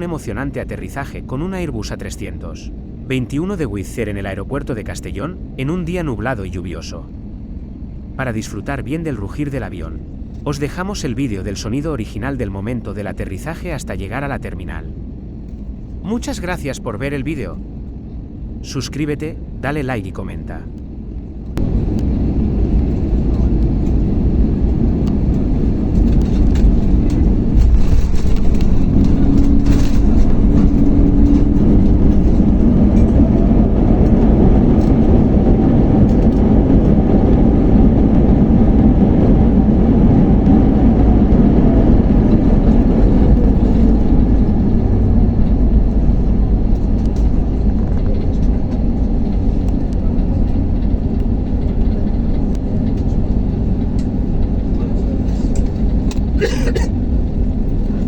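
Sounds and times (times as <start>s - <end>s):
airplane cabin rumble: 0.0s - 58.0s
jet engines whining: 0.0s - 58.0s.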